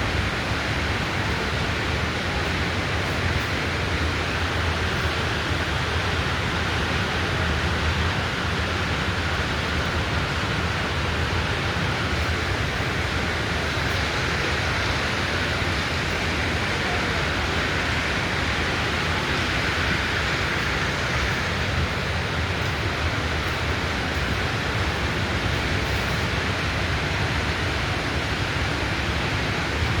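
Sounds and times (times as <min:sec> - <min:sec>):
steady rushing hiss: 0:00.0 - 0:30.0.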